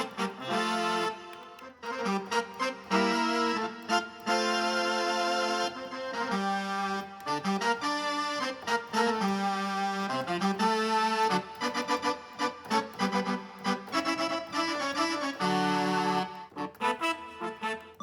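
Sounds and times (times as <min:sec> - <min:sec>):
synthesizer keyboard melody: 0:00.0 - 0:18.0.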